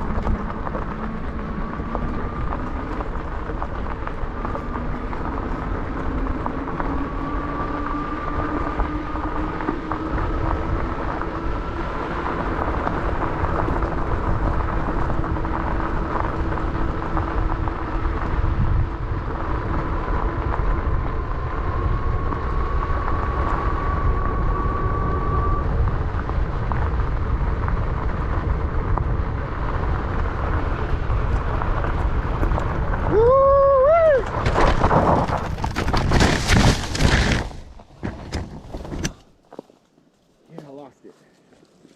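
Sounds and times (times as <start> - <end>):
wind rumble on microphone: 0.0 - 39.2
tyres on dirt: 0.0 - 41.9.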